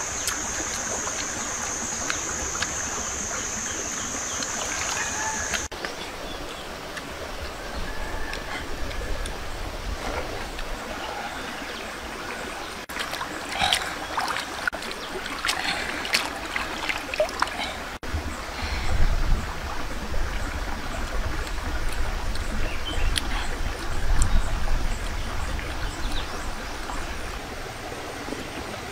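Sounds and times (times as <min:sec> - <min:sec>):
water running over rocks: 0:00.0 - 0:28.9.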